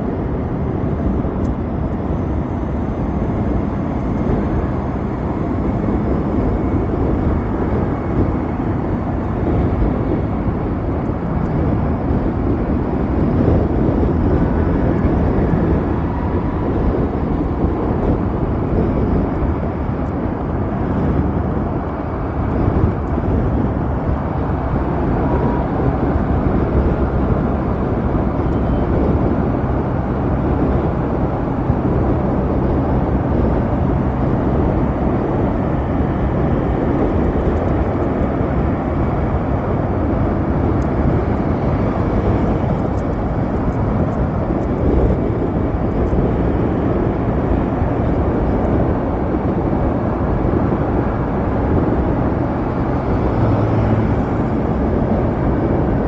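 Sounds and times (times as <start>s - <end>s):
road noise: 0.0s - 56.0s
wind rush: 0.0s - 56.0s.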